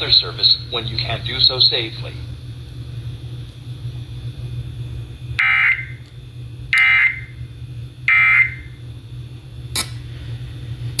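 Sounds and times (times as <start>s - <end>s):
low radio hum: 0.0s - 11.0s.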